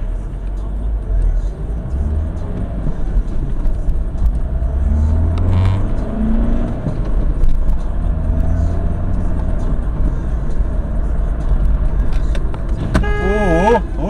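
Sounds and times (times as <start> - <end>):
car engine accelerating: 0.0 - 14.0
road noise inside car: 0.0 - 14.0.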